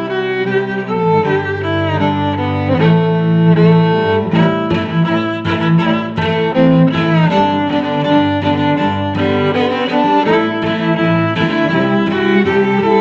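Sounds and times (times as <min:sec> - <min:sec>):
violin and cello playing: 0:00.0 - 0:13.0.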